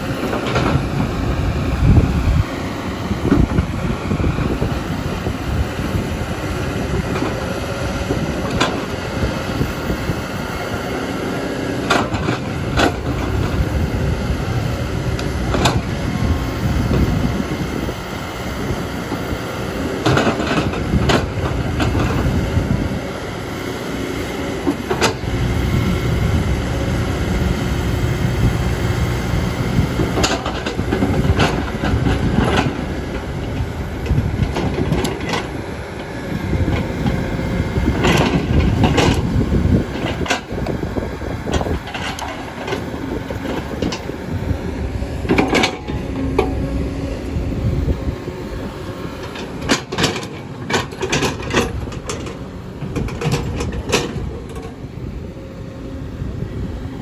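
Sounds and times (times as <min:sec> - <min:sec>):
excavator diesel engine rumbling: 0:00.0 - 0:57.0.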